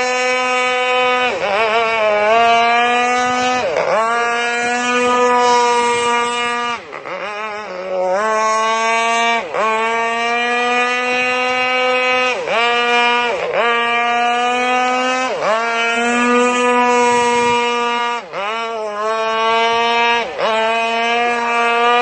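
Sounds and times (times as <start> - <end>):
small two-stroke engine revving: 0.0 - 22.0.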